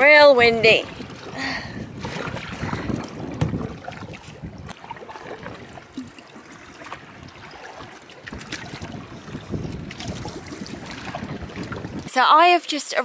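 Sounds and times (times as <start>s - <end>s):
water slapping against canoe hull: 0.0s - 12.3s
wind gusting on microphone: 0.0s - 12.6s.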